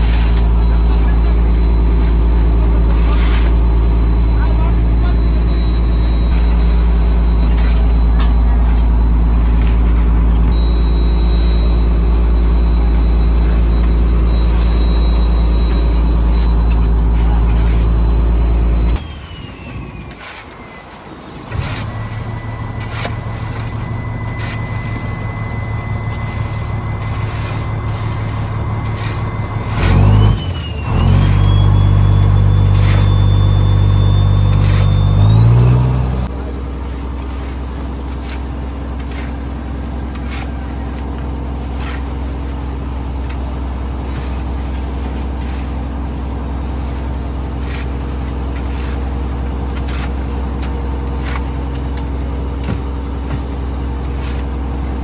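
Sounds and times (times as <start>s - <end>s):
high rising whine: 0.0s - 20.1s, 21.6s - 55.0s
boat engine and deck machinery: 0.0s - 55.0s.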